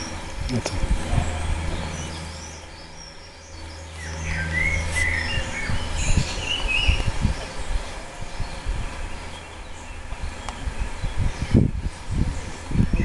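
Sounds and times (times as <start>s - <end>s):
birds chirping: 0.0s - 13.0s
low rumble: 0.0s - 13.0s.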